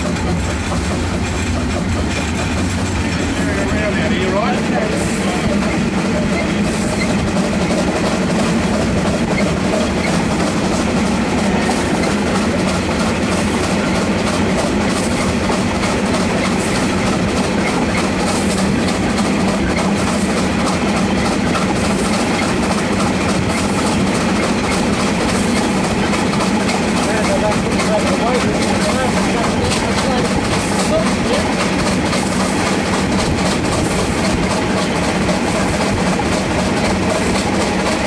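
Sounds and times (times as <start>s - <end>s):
steam locomotive running: 0.0s - 38.0s.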